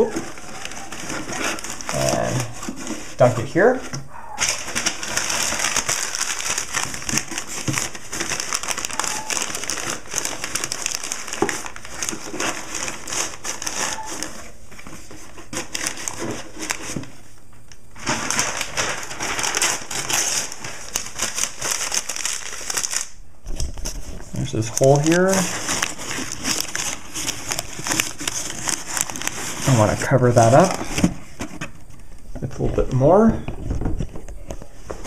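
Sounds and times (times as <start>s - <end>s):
newspaper crumpling and rustling: 0.0s - 35.0s.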